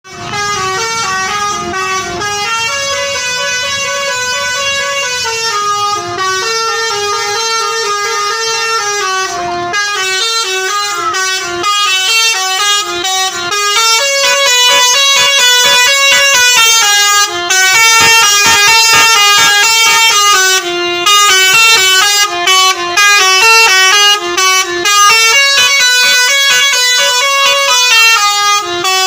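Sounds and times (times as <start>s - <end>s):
multi-tone bus horn playing a tune: 0.0s - 29.0s.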